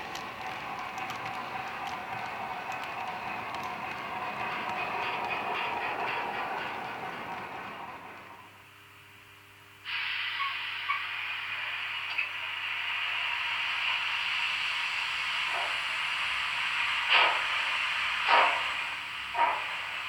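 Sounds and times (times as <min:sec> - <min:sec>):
steam locomotive exhaust chuffs: 0:00.0 - 0:08.7, 0:09.9 - 0:20.0
steady steam hiss: 0:00.0 - 0:08.8, 0:09.7 - 0:20.0.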